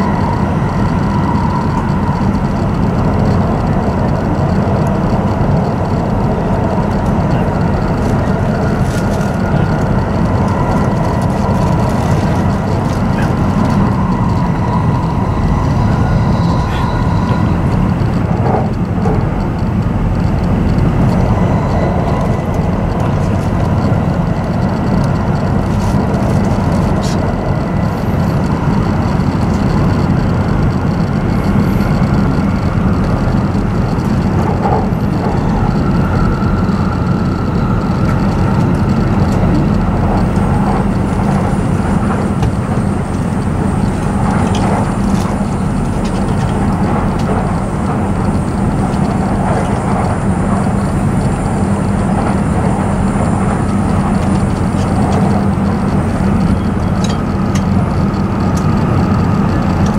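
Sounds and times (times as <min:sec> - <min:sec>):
train cabin wheel rumble: 0:00.0 - 0:59.9.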